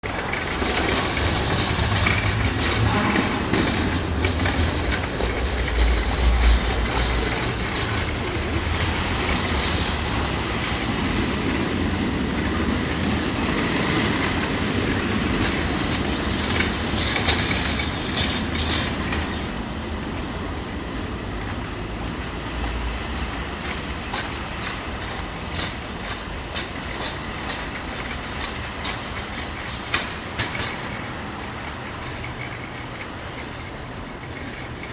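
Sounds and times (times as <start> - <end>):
shopping cart wheels rumbling: 0.0 - 34.9.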